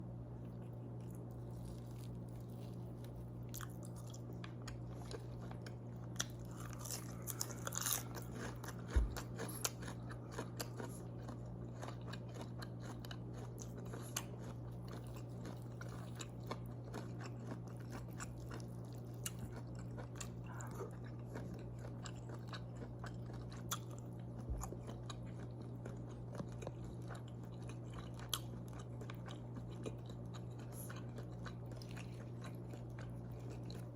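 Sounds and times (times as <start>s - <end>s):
person chewing crunchy food: 0.0s - 33.9s
steady low hum: 0.0s - 33.9s.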